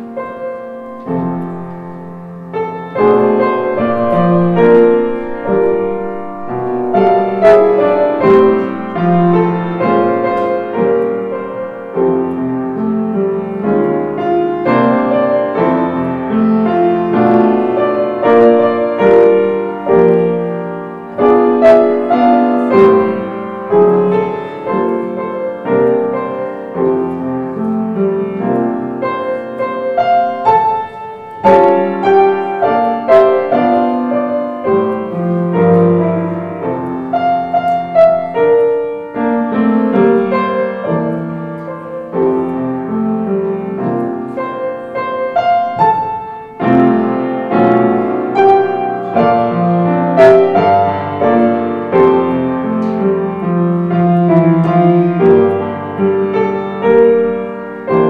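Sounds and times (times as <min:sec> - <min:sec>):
piano playing: 0:00.0 - 0:58.0.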